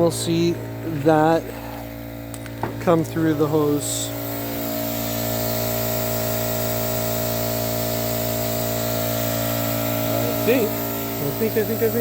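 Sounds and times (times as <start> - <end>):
air compressor motor hum: 0.0 - 12.0.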